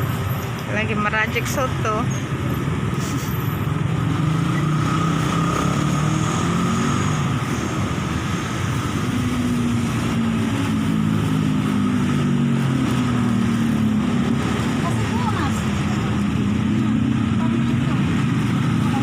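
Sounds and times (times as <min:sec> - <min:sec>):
motorcycles passing: 0:00.0 - 0:19.0
vehicle engines passing: 0:00.0 - 0:19.0.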